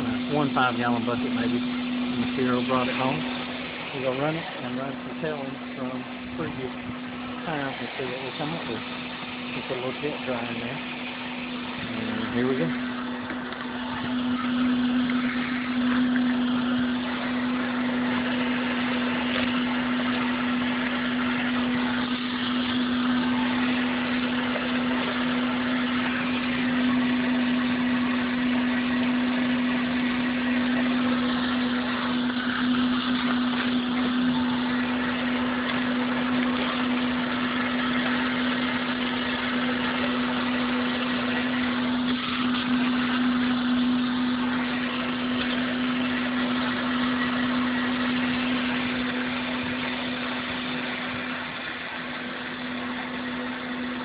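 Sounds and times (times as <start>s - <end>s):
motor hum: 0.0s - 54.0s
water and gravel washing in drum: 0.0s - 54.0s.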